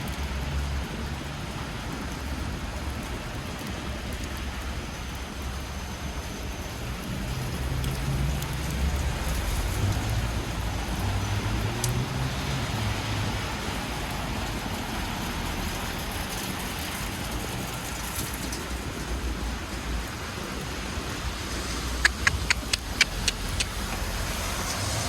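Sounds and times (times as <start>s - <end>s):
hiss of rain and tyres: 0.0s - 25.0s
traffic on wet street: 0.0s - 25.0s
vehicle engine rumble: 0.0s - 25.0s.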